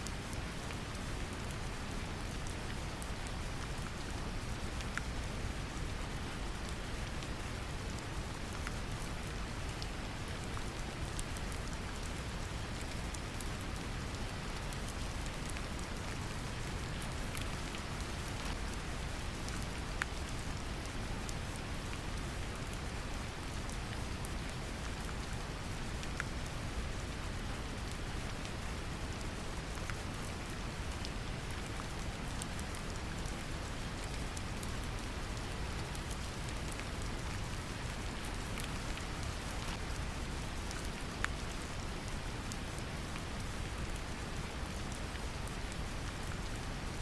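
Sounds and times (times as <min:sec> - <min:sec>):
gentle rain: 0:00.0 - 0:47.0.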